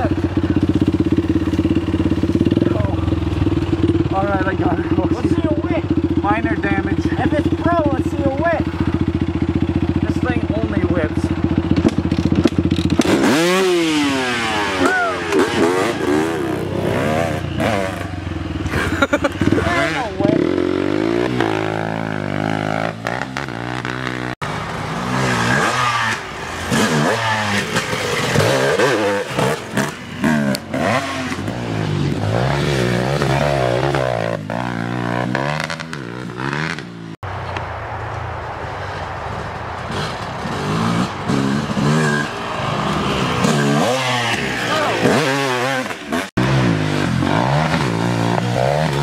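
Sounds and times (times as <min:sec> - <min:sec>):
dirt bike engine revving: 0:00.0 - 0:37.2, 0:39.8 - 0:49.0.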